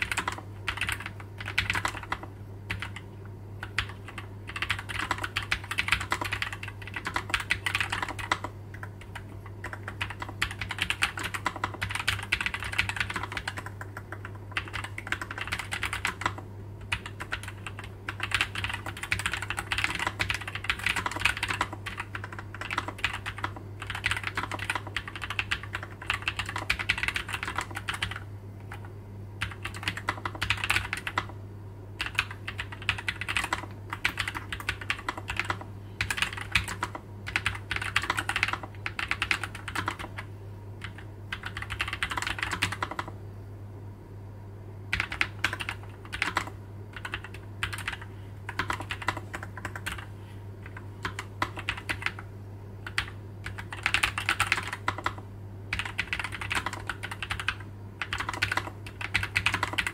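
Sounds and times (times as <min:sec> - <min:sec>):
typing on a mechanical keyboard: 0:00.0 - 0:31.4, 0:32.0 - 0:43.2, 0:44.9 - 0:59.9.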